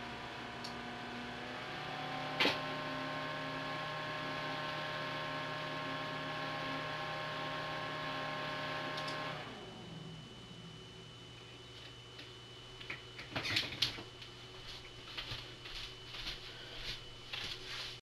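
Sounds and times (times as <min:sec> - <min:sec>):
computer fan whirring: 0:00.0 - 0:18.0.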